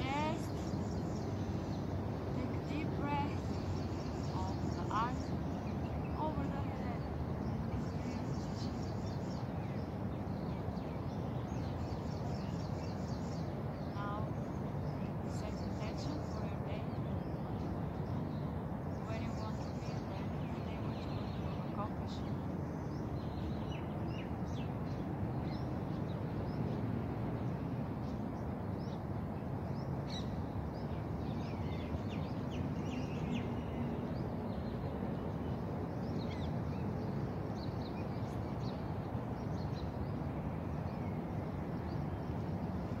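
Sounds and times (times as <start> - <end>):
birds chirping: 0.0 - 43.0
low background rumble: 0.0 - 43.0.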